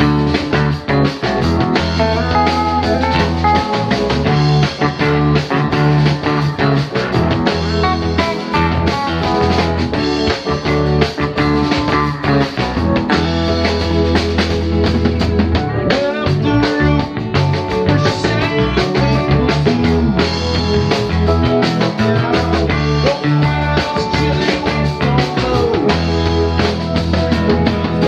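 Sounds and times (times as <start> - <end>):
bass guitar: 0.0 - 28.0
drums: 0.0 - 28.0
electric guitar lead lines: 0.0 - 28.0.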